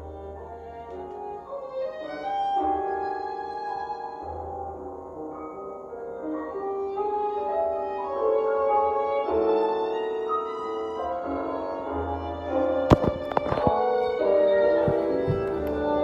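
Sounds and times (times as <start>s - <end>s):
low piano: 0.0s - 16.0s.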